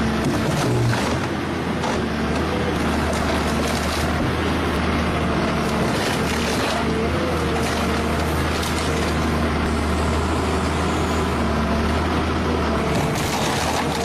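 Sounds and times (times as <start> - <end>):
heavy machine engine running: 0.0 - 14.0.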